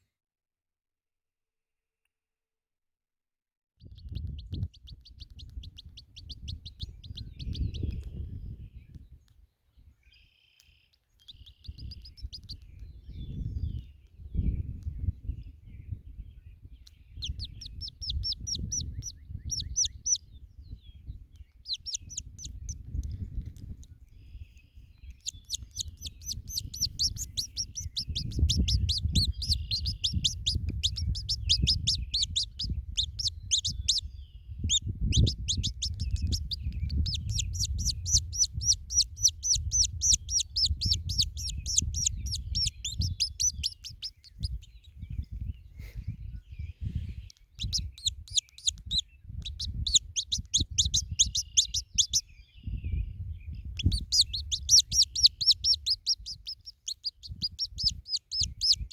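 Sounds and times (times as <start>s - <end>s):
baby chick peeping: 3.8s - 58.9s.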